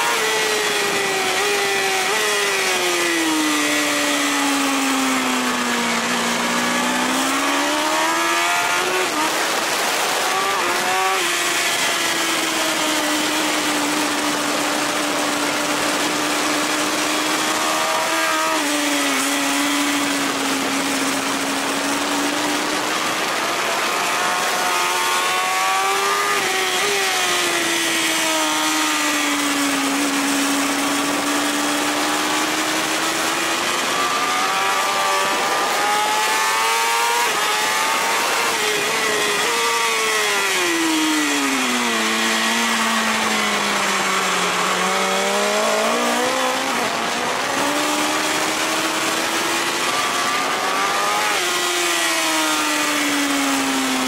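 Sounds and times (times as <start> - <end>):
motorcycle engine revving: 0.0 - 54.0
rushing wind: 0.0 - 54.0.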